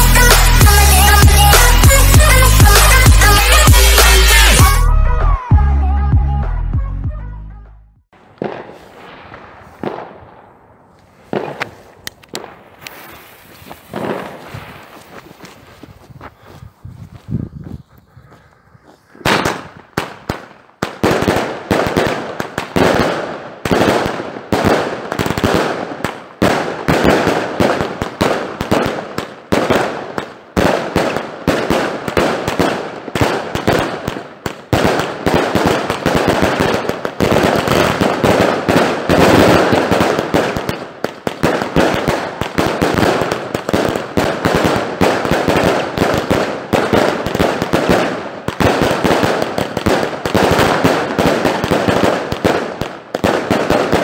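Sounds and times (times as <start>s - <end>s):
fireworks launch shots and bursts: 0.0s - 4.8s, 8.2s - 15.8s, 19.1s - 54.0s.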